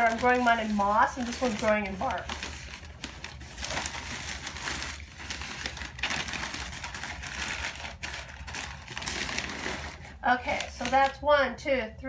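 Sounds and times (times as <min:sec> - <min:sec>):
packing material rustling: 0:00.0 - 0:11.2.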